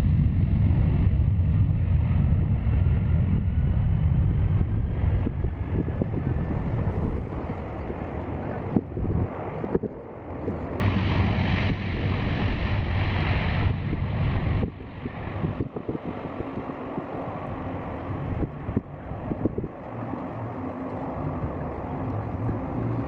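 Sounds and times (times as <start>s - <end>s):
aircraft engine roar: 0.0s - 23.0s
wind buffeting microphone: 0.0s - 23.0s.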